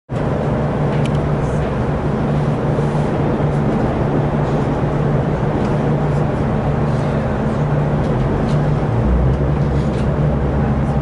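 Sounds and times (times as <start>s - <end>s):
constant low hum: 0.1s - 11.0s
train cabin rumble: 0.1s - 11.0s.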